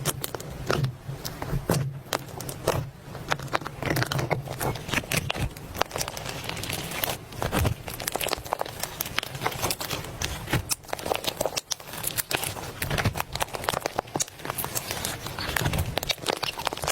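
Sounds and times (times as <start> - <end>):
hands squishing slime: 0.0 - 16.9.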